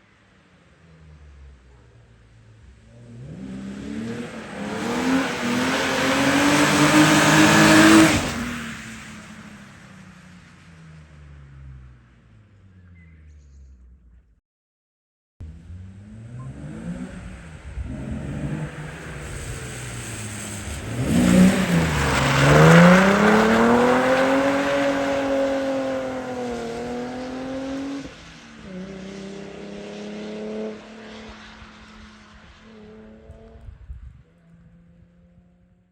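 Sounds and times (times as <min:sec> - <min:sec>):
car engine revving by: 0:00.8 - 0:13.0, 0:15.4 - 0:33.8.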